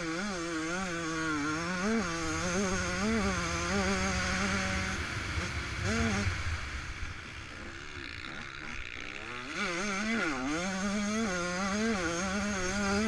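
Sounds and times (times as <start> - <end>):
two-stroke motocross engine: 0.0 - 13.0.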